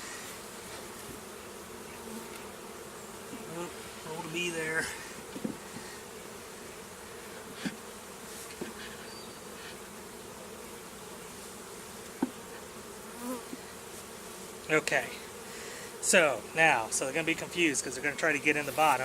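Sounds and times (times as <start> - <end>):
honeybee colony buzzing: 0.0 - 19.0.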